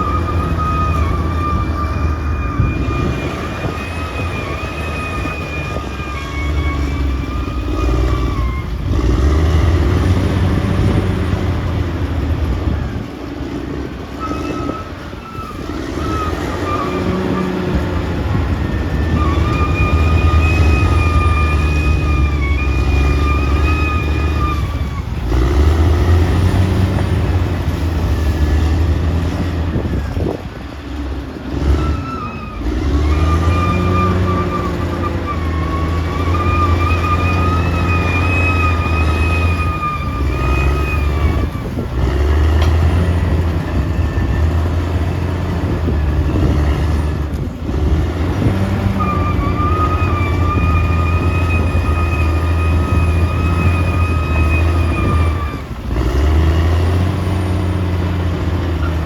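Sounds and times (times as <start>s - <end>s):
bulldozer diesel drone: 0.0s - 59.0s.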